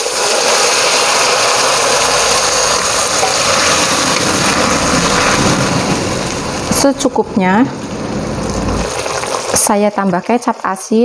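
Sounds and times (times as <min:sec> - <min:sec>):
water hissing in hot wok: 0:00.0 - 0:11.0.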